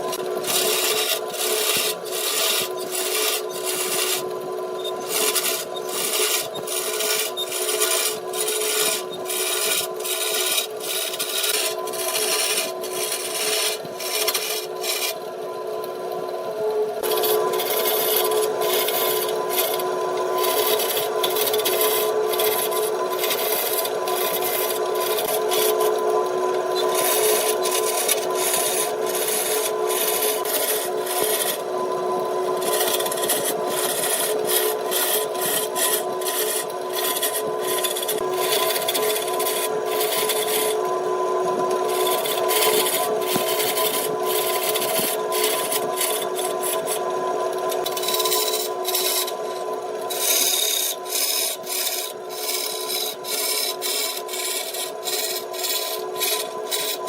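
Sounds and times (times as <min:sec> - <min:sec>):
tool rasping against spinning wood: 0:00.0 - 0:15.2, 0:17.0 - 0:57.0
wood lathe humming: 0:00.0 - 0:57.0.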